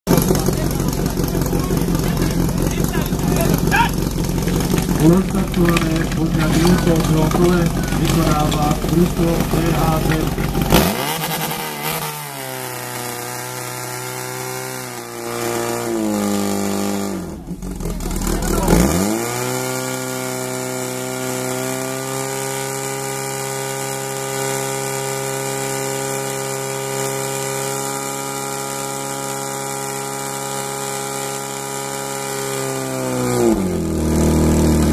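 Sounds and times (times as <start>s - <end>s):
pump engine revving: 0.1s - 34.9s.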